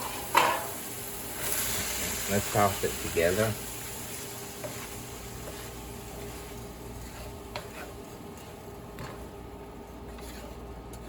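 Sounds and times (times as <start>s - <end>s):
food sizzling in a frying pan: 0.0s - 10.8s.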